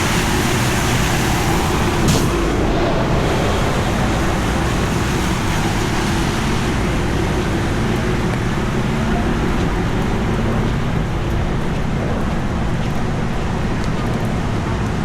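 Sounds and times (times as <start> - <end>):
heavy rain on street: 0.0 - 15.0
traffic hissing on wet road: 0.0 - 15.0.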